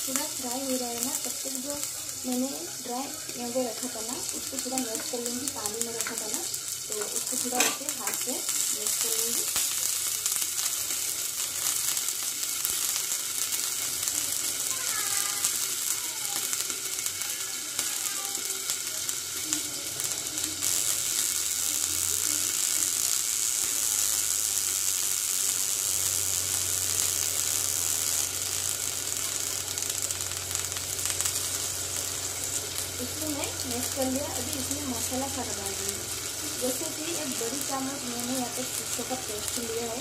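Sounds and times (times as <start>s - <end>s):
okra sizzling in hot oil: 0.0s - 40.0s.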